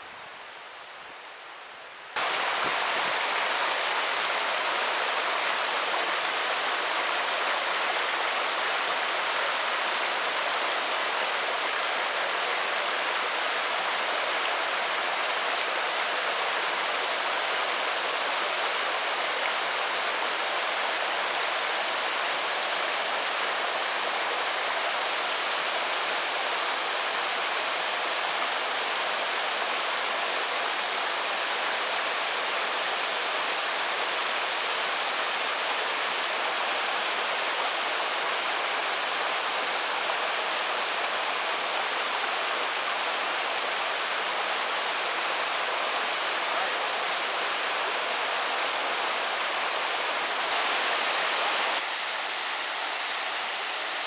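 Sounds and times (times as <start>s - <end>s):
stream running over rocks: 2.2s - 54.0s.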